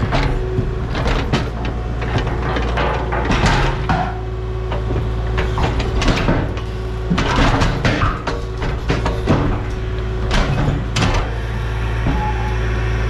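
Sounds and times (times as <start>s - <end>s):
equipment knocking and scraping: 0.0s - 11.2s
heavy machinery engine running: 0.0s - 13.0s.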